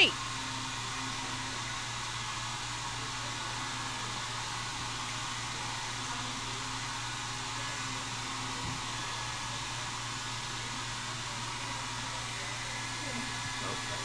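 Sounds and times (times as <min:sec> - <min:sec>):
hair dryer whooshing hiss: 0:00.0 - 0:14.0.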